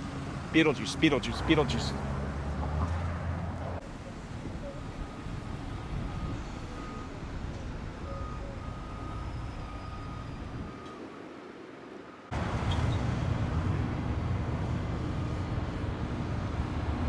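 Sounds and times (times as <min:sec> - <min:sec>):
close vehicle rumble: 0:00.0 - 0:11.0, 0:12.3 - 0:17.0
road traffic noise: 0:00.0 - 0:17.0.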